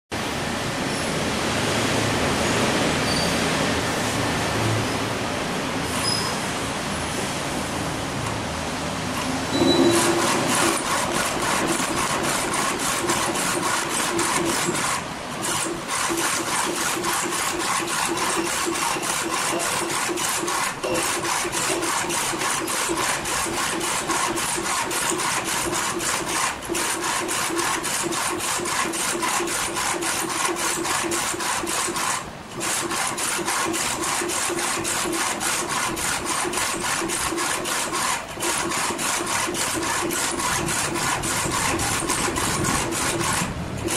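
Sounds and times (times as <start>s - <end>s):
printer carriage whirring: 1.9s - 43.9s.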